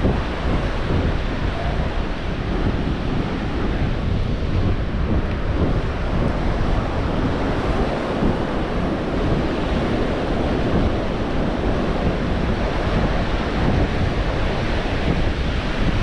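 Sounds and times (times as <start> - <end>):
ocean surf washing onto beach: 0.0 - 16.0
wind buffeting microphone: 0.0 - 16.0.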